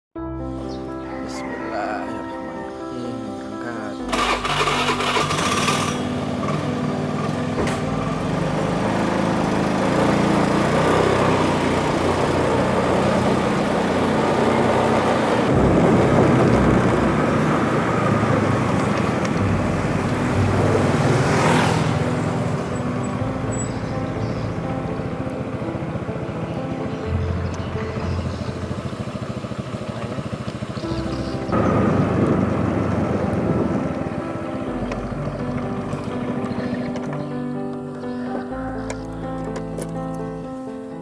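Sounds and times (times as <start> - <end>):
road and wind noise: 0.5 - 41.0
vehicle engine running: 2.6 - 40.6.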